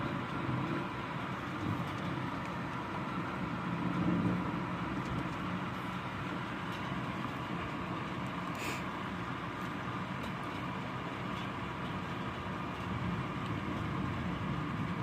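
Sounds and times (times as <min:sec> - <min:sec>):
rainstorm rumbling: 0:00.0 - 0:15.0.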